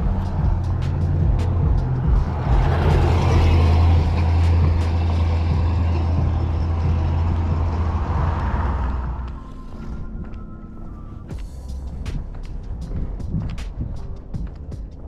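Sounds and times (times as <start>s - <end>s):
large vehicle engine rumbling: 0.0s - 15.0s
road noise: 0.0s - 15.0s.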